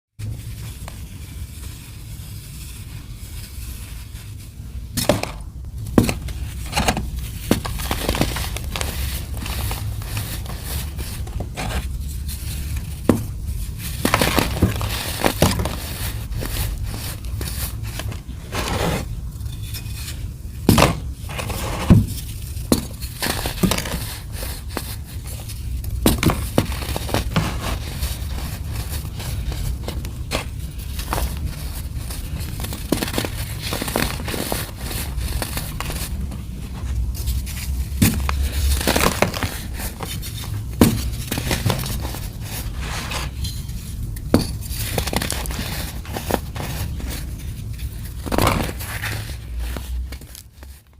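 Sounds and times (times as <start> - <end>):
brittle material crunching: 4.9 - 19.0, 21.0 - 50.9.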